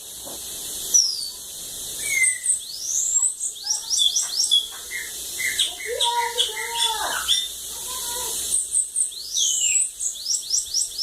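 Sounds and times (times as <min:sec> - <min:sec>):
bird singing high chirps: 0:00.9 - 0:01.4, 0:02.0 - 0:11.0.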